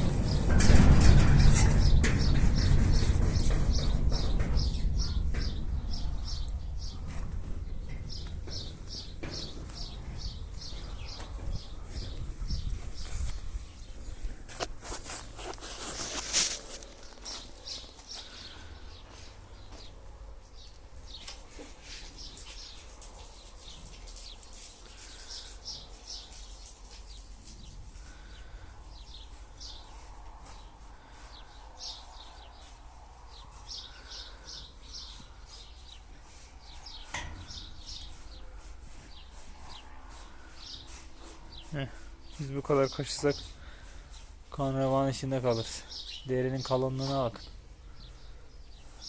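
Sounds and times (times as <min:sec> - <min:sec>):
low steady background noise: 0:00.0 - 0:49.0
small birds chirping: 0:01.4 - 0:49.0.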